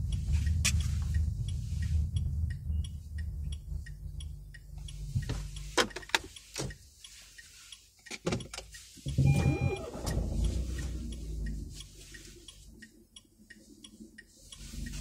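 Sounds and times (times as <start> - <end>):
car engine rumble: 0.0 - 15.0
regular ticking: 0.0 - 15.0.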